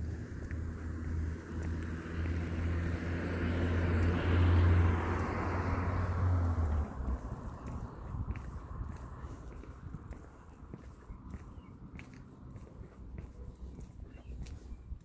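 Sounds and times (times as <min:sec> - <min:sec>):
car passing by: 0:00.0 - 0:12.7.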